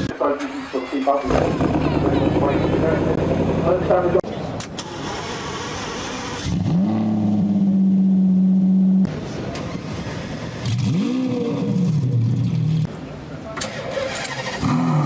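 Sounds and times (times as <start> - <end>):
car engine starting and revving: 0.5 - 12.9, 13.6 - 15.0.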